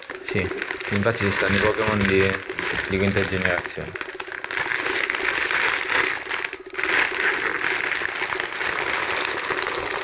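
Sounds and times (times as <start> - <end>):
packaging wrapper crinkling: 0.0 - 10.0.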